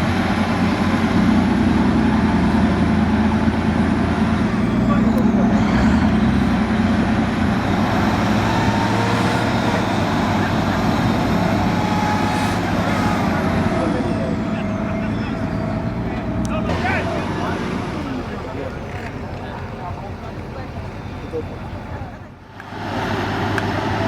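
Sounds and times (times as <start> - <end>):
vehicle engine under load: 0.0 - 24.0
voices: 0.0 - 24.0.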